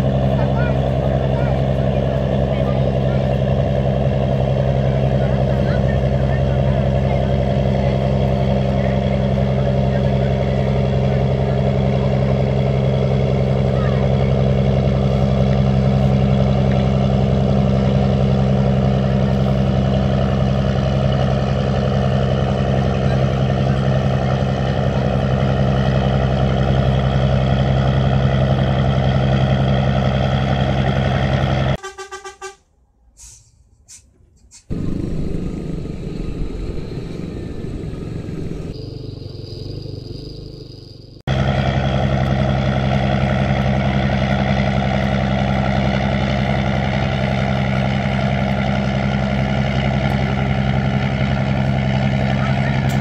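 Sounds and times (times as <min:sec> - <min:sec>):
boat diesel engine droning: 0:00.0 - 0:53.0.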